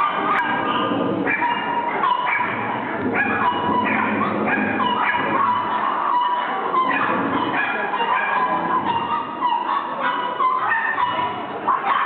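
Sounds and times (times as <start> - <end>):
small dog yapping and whining: 0.0 - 12.0.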